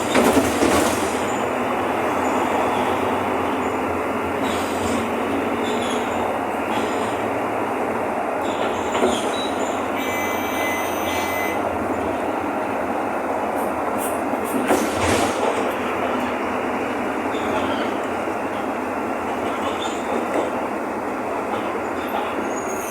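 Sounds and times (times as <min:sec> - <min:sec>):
bus diesel engine rumble: 0:00.0 - 0:22.9.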